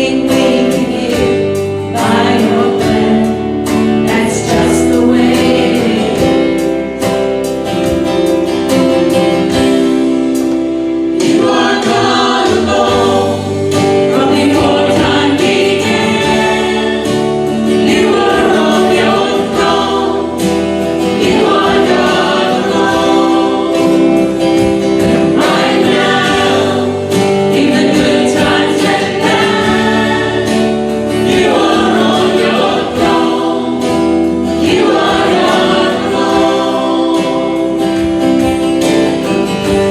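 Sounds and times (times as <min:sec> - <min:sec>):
choir singing a hymn: 0:00.0 - 0:07.8, 0:10.9 - 0:39.9
held instrumental chords: 0:00.0 - 0:39.9.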